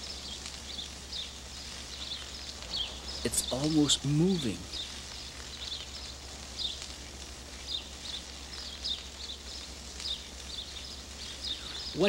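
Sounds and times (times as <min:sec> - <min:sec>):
fat crackling and popping: 0:00.0 - 0:12.0
steak sizzling in a skillet: 0:00.0 - 0:12.0.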